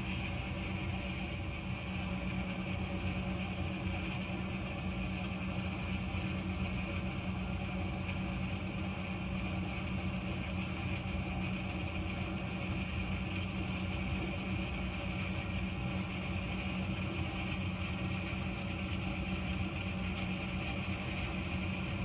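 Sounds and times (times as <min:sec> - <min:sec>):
constant low hum: 0:00.0 - 0:22.0.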